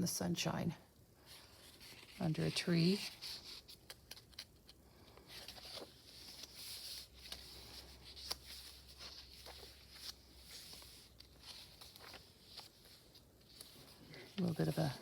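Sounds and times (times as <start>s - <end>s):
pages rustling: 1.2s - 15.0s.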